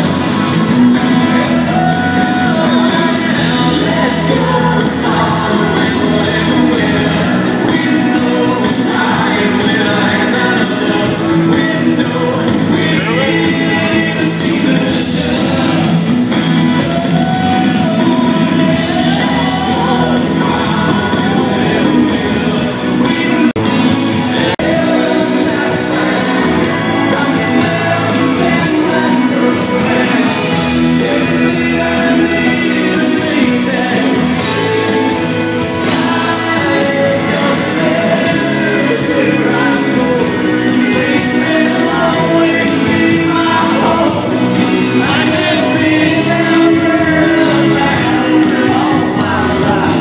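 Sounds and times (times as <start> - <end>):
amplified live music with singer: 0.0 - 50.0.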